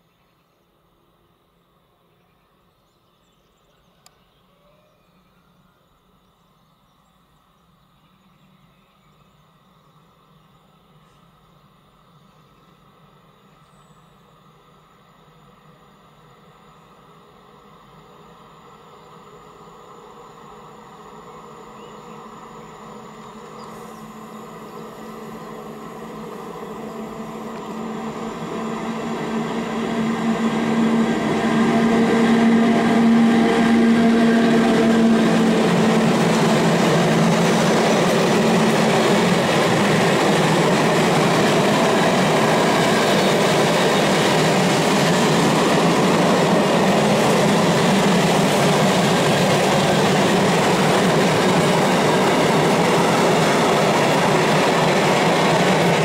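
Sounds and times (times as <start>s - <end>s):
locomotive hum: 9.5s - 56.0s.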